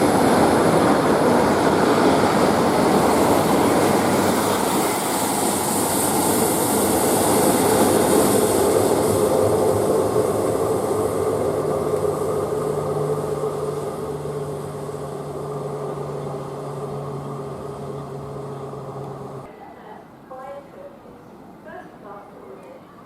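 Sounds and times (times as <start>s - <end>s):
diesel train engine hum: 0.0s - 19.5s
rumble of train wheels: 0.0s - 19.5s.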